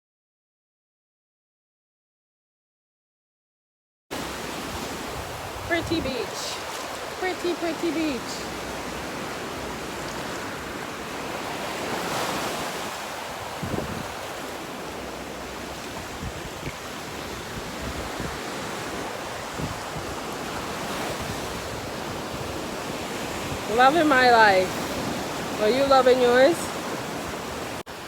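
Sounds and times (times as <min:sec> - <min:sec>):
ocean waves on beach: 0:04.1 - 0:28.0
wind buffeting microphone: 0:04.6 - 0:27.8.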